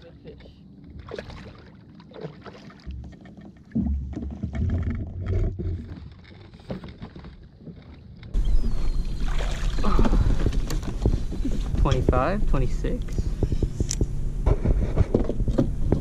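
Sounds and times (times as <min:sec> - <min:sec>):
water sounds: 0:00.0 - 0:13.5.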